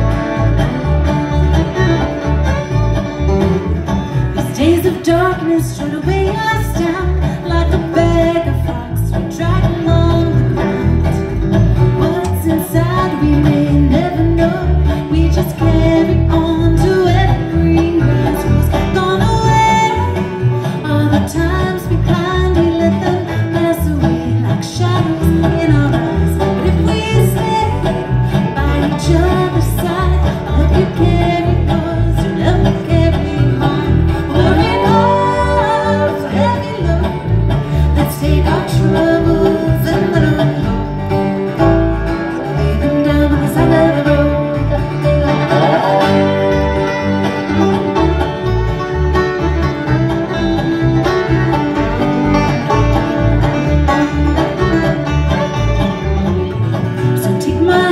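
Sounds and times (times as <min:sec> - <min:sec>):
bluegrass string band playing: 0:00.0 - 0:57.9
fiddle with sliding notes: 0:00.0 - 0:57.9
strummed guitar: 0:00.0 - 0:57.9.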